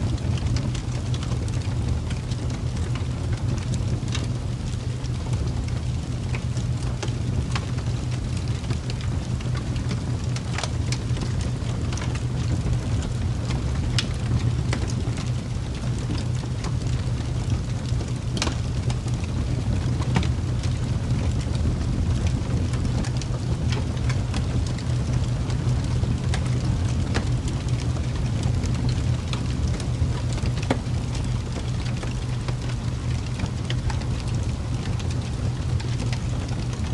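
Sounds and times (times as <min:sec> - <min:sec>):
rain rumble and hiss: 0:00.0 - 0:36.9
raindrop taps: 0:00.2 - 0:36.9.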